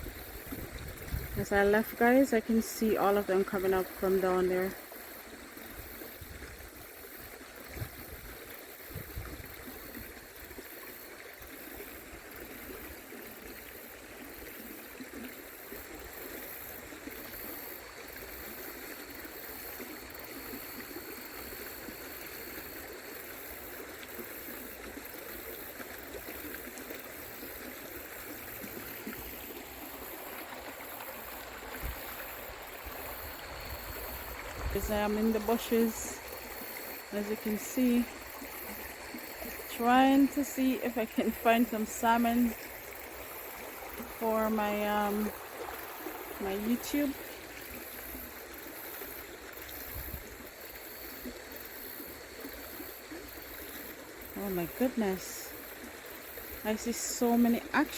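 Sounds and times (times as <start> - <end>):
creek water over rocks: 0.0 - 57.9.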